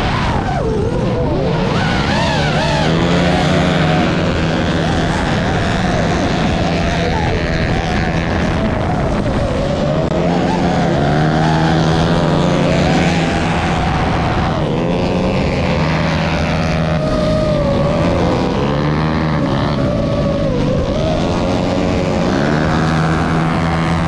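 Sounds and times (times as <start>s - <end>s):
drone motors whining: 0.0s - 24.0s
motorcycle engines revving: 0.0s - 24.0s.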